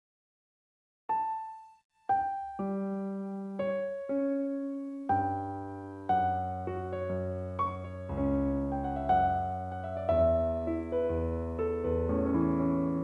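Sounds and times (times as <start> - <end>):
piano music: 1.1 - 13.0.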